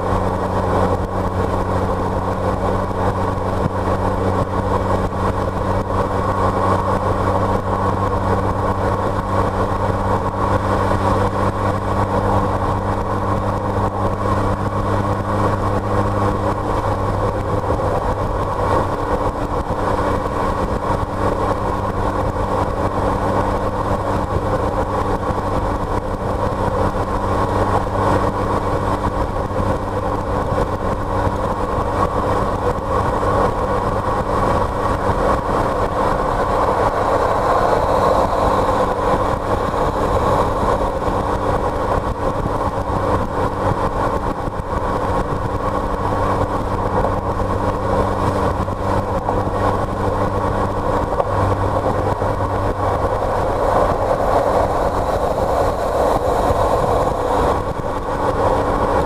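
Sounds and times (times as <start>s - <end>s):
low engine hum: 0.0s - 59.0s
road noise: 0.0s - 59.0s.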